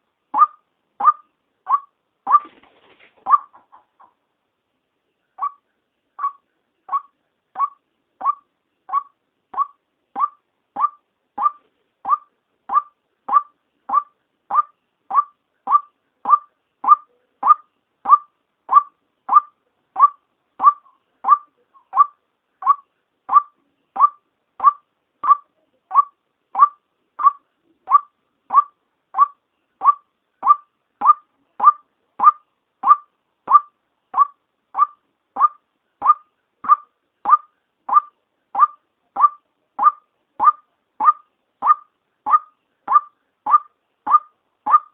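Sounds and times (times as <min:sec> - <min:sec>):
waterhen call: 0:00.4 - 0:02.6, 0:03.2 - 0:04.2, 0:05.4 - 0:05.6, 0:06.2 - 0:25.4, 0:26.0 - 0:44.9.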